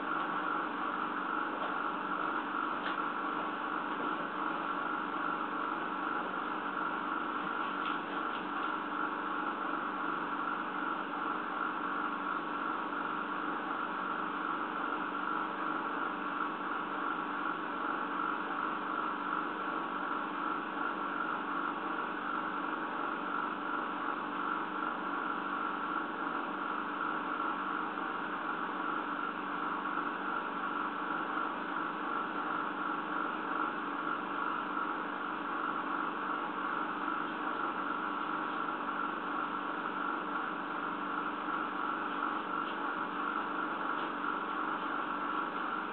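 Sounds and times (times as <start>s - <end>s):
steady background hum and hiss: 0.0s - 45.9s.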